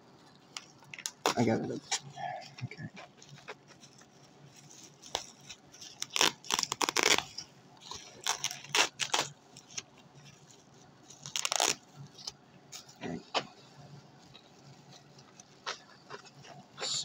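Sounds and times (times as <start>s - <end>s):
packaging tearing and crinkling: 0.4s - 16.8s.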